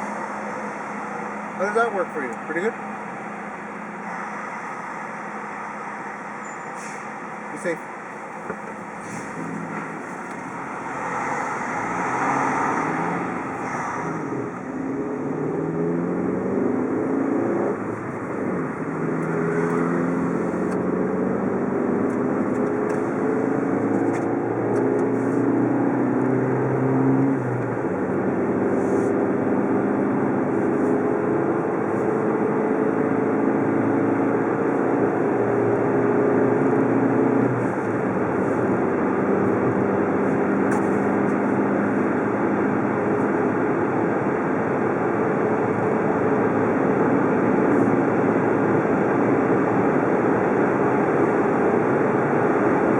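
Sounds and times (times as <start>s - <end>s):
car engine accelerating: 0.0s - 52.9s
road noise: 0.0s - 52.9s.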